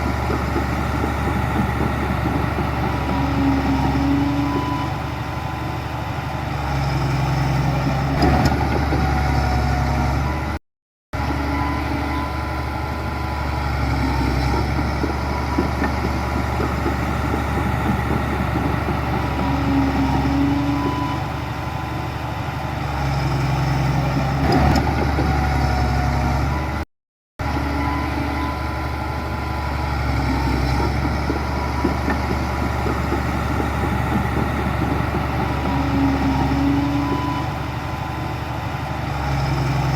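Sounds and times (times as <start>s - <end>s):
heavy diesel machinery running: 0.0s - 10.6s, 11.2s - 26.8s, 27.4s - 39.9s.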